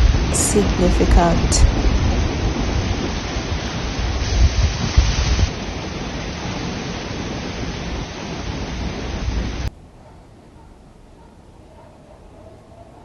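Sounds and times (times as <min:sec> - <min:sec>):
steady rushing noise: 0:00.0 - 0:11.1
low rumbles: 0:00.0 - 0:11.2.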